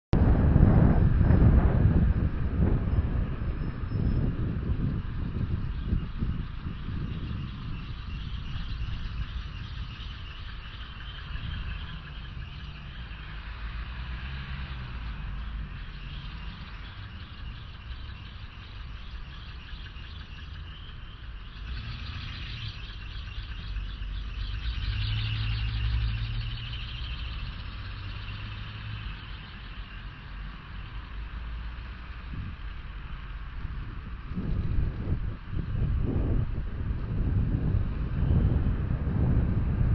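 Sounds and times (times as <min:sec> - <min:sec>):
wind rumbling on microphone: 0:00.1 - 0:39.9
road traffic passing: 0:00.2 - 0:39.9.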